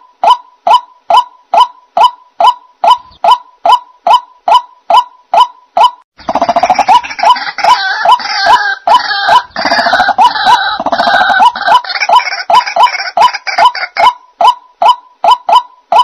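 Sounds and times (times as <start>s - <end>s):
bird croaking calls: 0.2s - 16.0s
chorus of bird calls: 0.2s - 16.0s.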